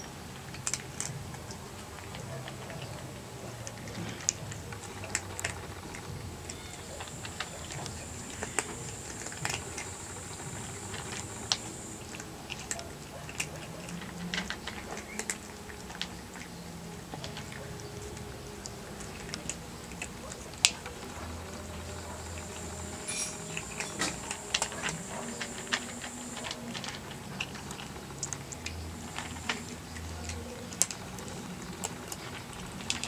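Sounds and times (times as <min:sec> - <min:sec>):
cats chewing and licking: 0:00.0 - 0:33.0.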